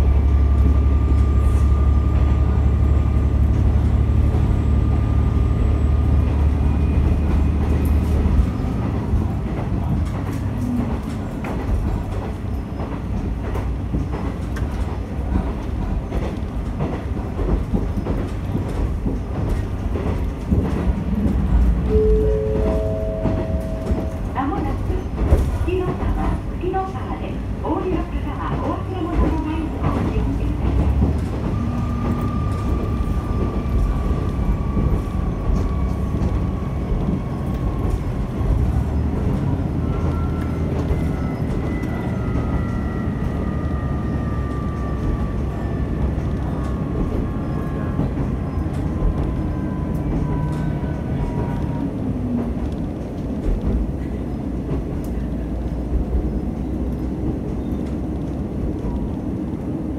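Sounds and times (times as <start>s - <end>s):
engine and wheels rumbling: 0.0s - 59.9s.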